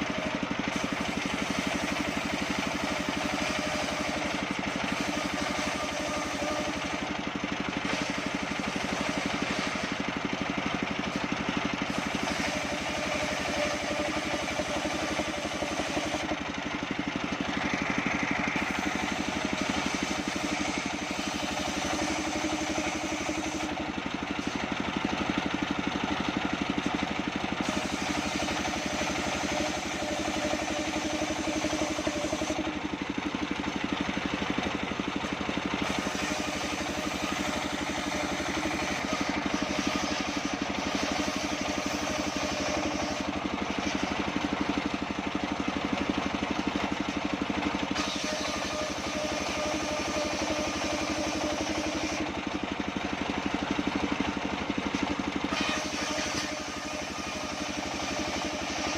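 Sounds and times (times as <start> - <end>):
band saw machine running: 0.0 - 58.9.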